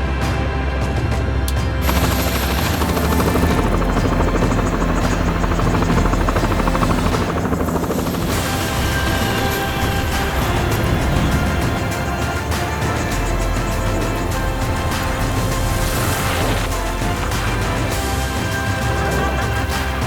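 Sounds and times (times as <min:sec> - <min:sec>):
music with rattling rhythm: 0:00.0 - 0:20.0.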